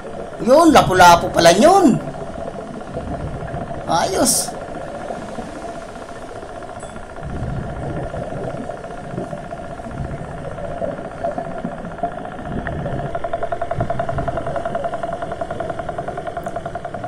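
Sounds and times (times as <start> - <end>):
underwater motor drone: 0.0 - 17.0.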